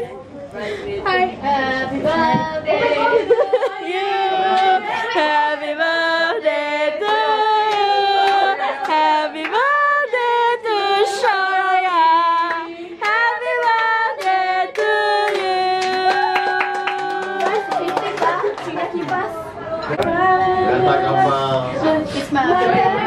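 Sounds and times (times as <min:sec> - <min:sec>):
group of women singing: 0:00.0 - 0:23.0.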